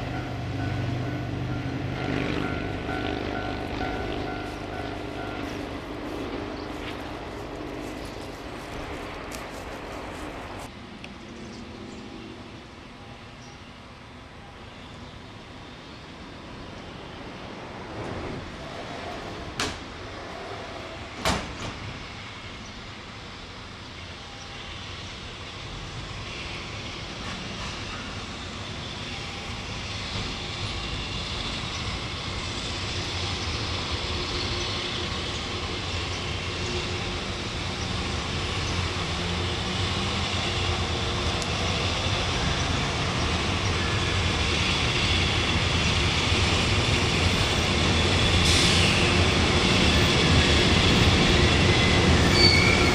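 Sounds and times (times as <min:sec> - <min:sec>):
electric locomotive running: 0:00.0 - 0:10.7, 0:16.4 - 0:52.9.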